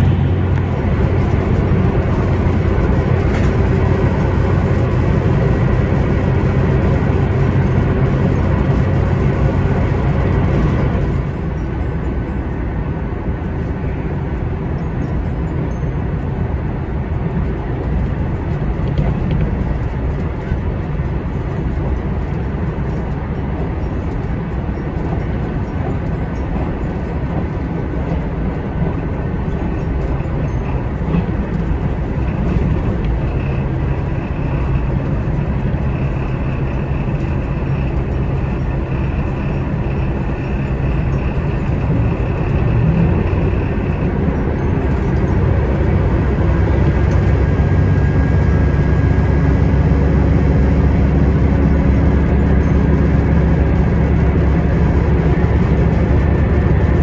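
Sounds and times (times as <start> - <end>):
diesel railcar droning: 0.0 - 57.0.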